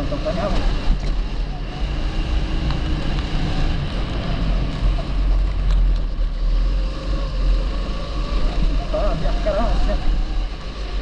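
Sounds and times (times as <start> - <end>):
kart engine running: 0.0 - 11.0.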